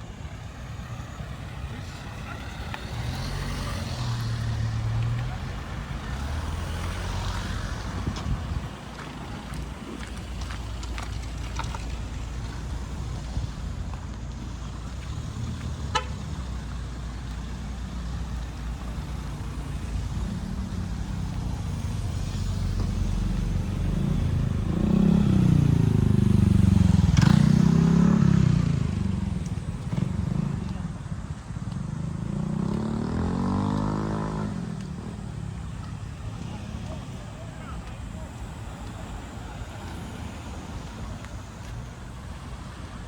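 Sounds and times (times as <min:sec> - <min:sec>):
low traffic rumble: 0:00.0 - 0:43.0
motor vehicle passing: 0:00.0 - 0:43.0.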